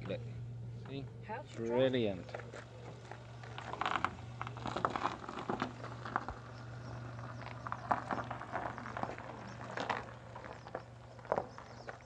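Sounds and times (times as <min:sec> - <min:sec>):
steady low hum: 0:00.0 - 0:12.0
footsteps crunching on gravel: 0:01.8 - 0:12.0.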